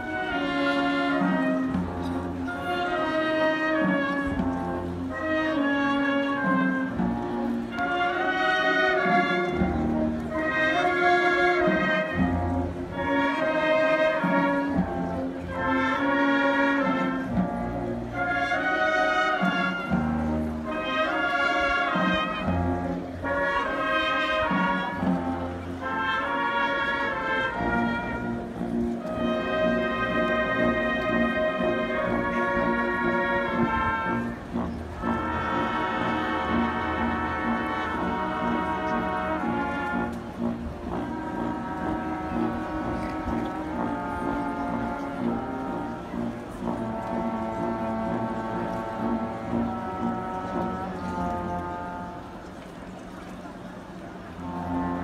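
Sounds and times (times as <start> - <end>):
brass band funeral march: 0.0 - 55.0.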